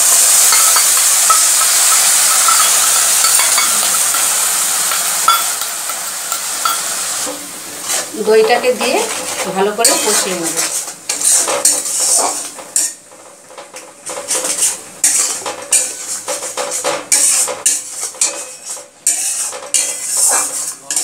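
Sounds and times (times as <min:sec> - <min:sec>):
food sizzling: 0:00.0 - 0:21.0
spatula scraping metal pan: 0:00.3 - 0:07.0, 0:07.8 - 0:21.0.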